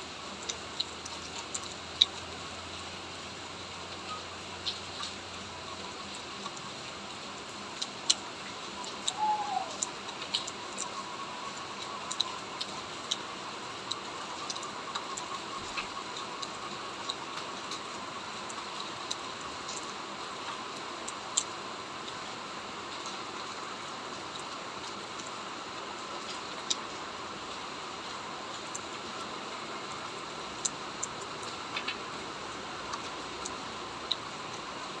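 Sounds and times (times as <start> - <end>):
light rain hissing: 0.0 - 35.0
raindrops ticking: 0.0 - 35.0.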